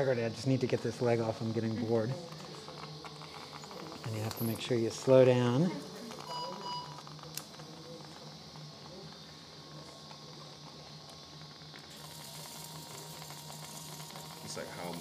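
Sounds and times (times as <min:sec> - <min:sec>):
surgical equipment humming: 0:00.0 - 0:15.0.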